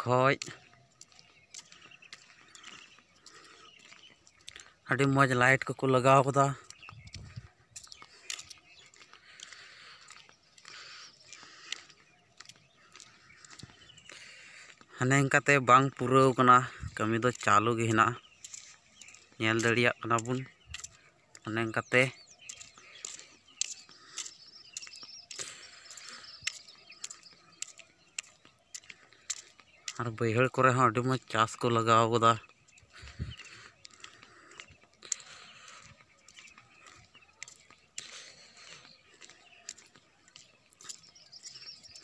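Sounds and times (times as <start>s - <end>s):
faint bird chirping: 0.0s - 42.0s
footsteps on gritty paving: 0.0s - 42.0s.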